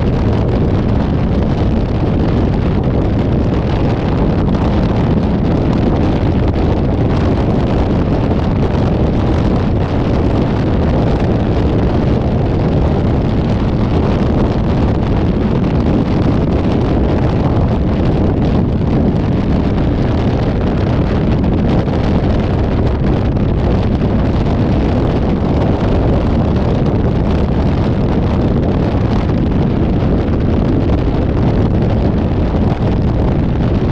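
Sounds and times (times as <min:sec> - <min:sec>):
vehicle road noise: 0:00.0 - 0:33.9
wind buffeting microphone: 0:00.0 - 0:33.9.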